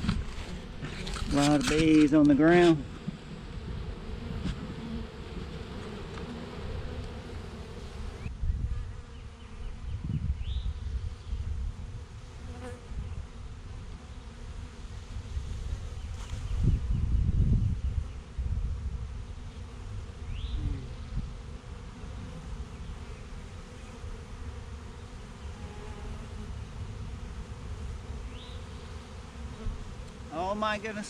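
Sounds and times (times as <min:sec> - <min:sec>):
bees buzzing: 0:00.0 - 0:09.8, 0:11.8 - 0:16.2, 0:19.3 - 0:31.0.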